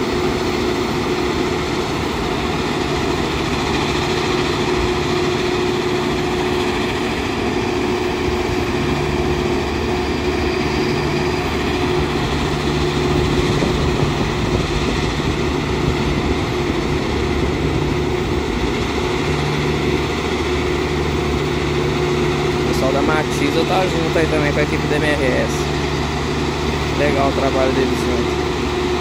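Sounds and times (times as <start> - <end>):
deep drone: 0.0 - 29.0
heavy machinery running: 0.0 - 29.0.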